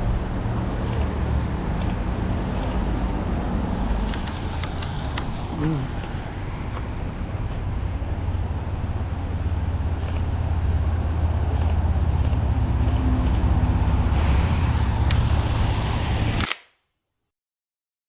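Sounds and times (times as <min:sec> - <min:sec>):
low rumble of cars: 0:00.0 - 0:16.6.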